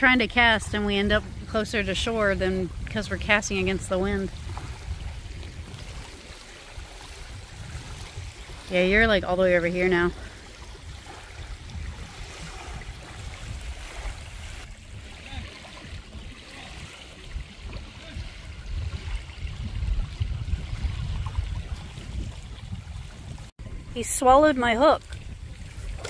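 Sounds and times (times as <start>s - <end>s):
small waves lapping on shore: 0.0s - 26.0s
wind buffeting microphone: 0.0s - 26.0s.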